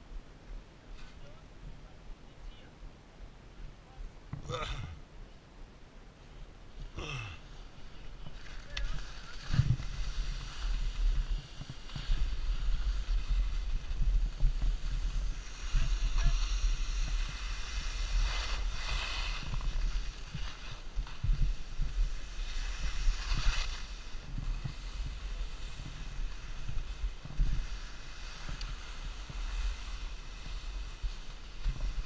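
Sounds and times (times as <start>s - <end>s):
skis scraping through snow: 6.3s - 32.0s.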